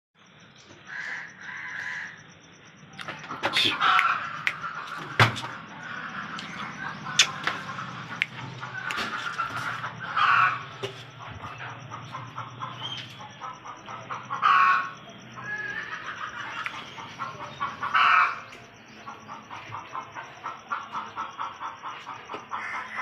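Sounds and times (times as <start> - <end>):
chickens clucking: 0.6 - 23.0
loud chicken calls: 0.7 - 2.3, 3.0 - 23.0.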